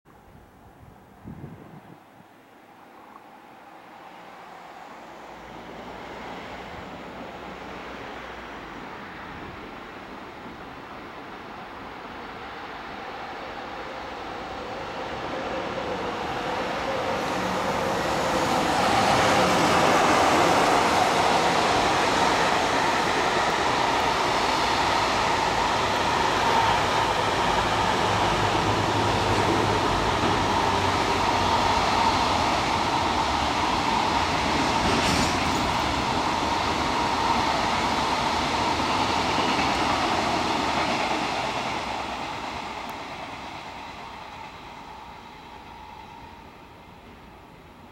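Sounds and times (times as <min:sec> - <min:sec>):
wheels rumbling on rail: 0:02.9 - 0:47.9
locomotive passing: 0:03.4 - 0:47.7.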